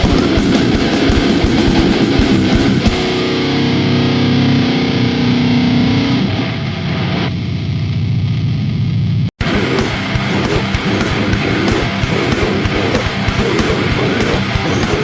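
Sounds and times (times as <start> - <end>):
distorted guitar chord ringing: 0.0 - 15.0
heavy metal music: 0.0 - 15.0.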